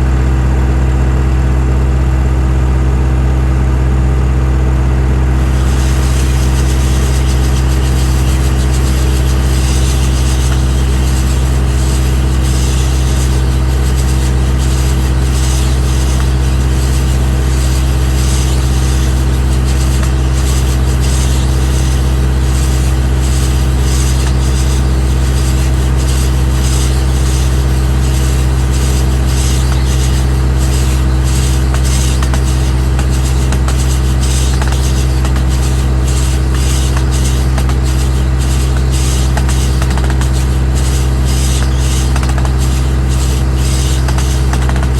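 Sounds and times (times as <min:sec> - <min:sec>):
farm machinery engine droning: 0:00.0 - 0:44.9.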